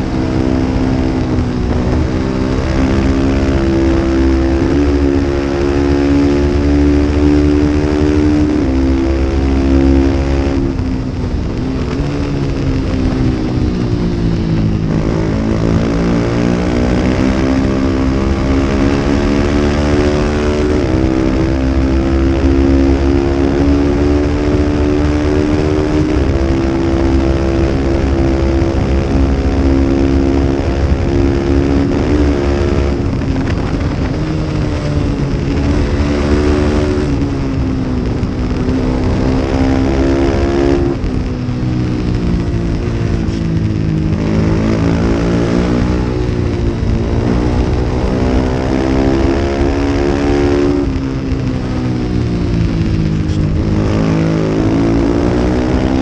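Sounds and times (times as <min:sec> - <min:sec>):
race motorcycle engine revving: 0:00.0 - 0:56.0
steady rushing noise: 0:00.0 - 0:56.0.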